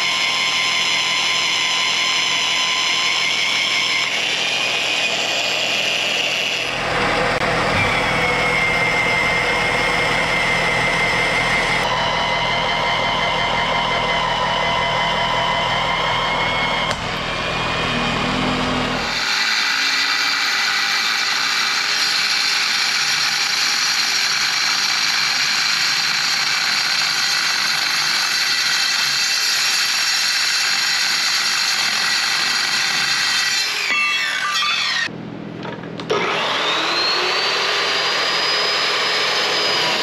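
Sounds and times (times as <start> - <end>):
saw blade shrieking through metal: 0.0 - 35.1, 36.1 - 40.0
saw motor winding down: 0.0 - 35.1, 36.1 - 40.0.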